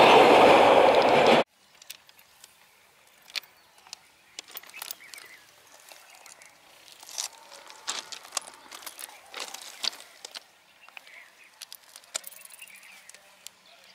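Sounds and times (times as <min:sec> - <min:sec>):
stones clicking and crunching: 0:01.7 - 0:13.9.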